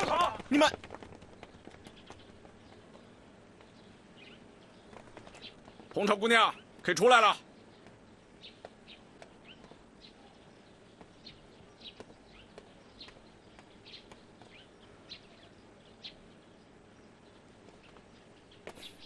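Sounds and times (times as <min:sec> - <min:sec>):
faint birds chirping: 0:00.0 - 0:19.0
low steady hiss: 0:02.0 - 0:19.0.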